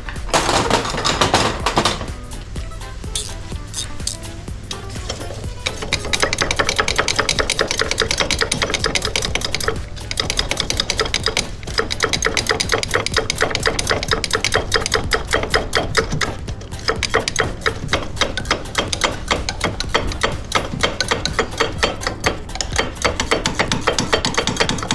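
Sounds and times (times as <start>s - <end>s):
ratchet wrench clicking: 2.6s - 24.9s.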